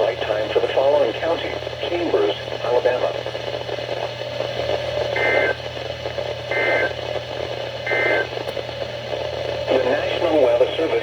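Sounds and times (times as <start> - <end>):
radio static: 0.0 - 5.6, 6.4 - 8.5, 9.2 - 11.0.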